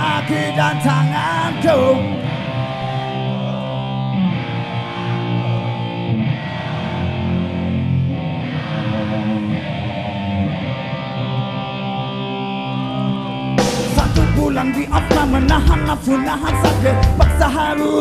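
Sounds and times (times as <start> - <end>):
electric guitar chords: 0.0 - 18.0
live rock band playing: 0.0 - 18.0.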